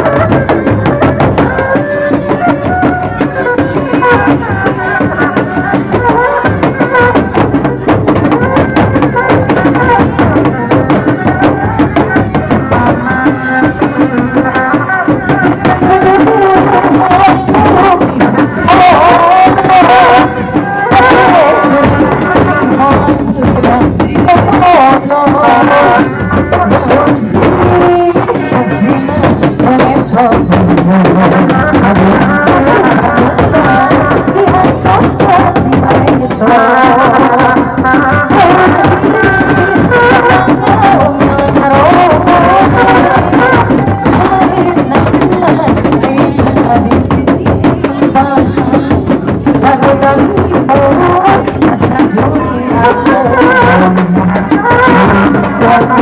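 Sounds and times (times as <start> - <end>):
hand drums beating: 0.0 - 56.0
ornamented folk melody: 0.0 - 56.0.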